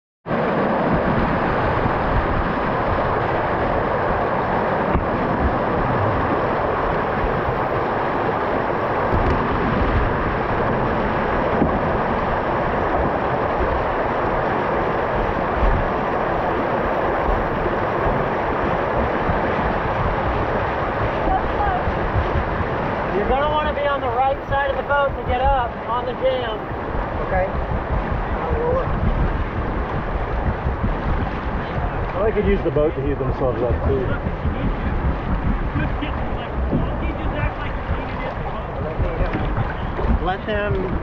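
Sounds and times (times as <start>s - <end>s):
river rapids rushing: 0.3s - 41.0s.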